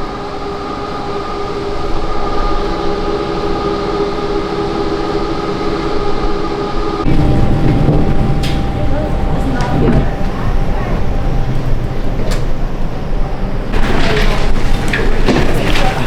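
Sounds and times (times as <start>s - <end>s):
whining tones: 0.0s - 15.3s
cable car mechanical hum: 0.0s - 16.0s.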